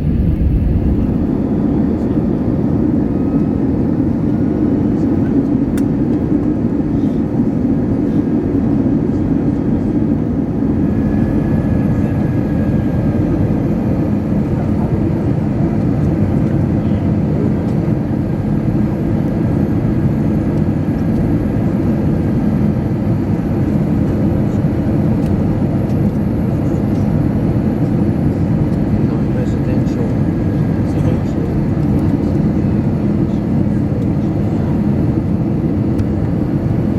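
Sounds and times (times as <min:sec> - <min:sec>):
airplane cabin noise: 0:00.0 - 0:36.9.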